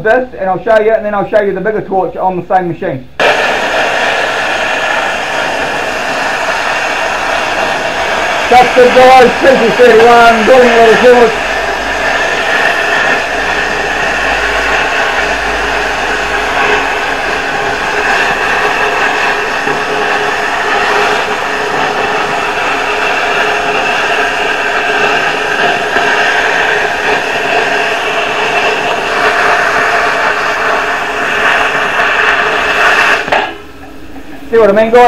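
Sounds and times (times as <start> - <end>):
plasma torch hissing: 3.2 - 34.3.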